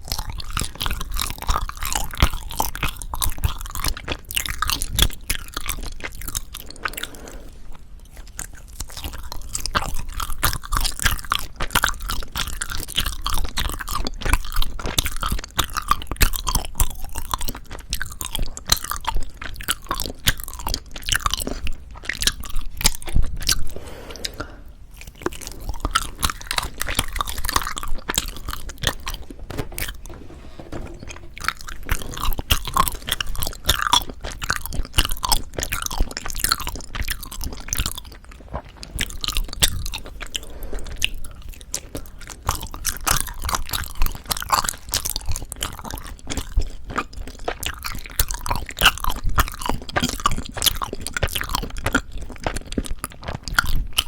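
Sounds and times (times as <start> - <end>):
chewing sticky food: 0.0 - 30.1, 31.2 - 54.0.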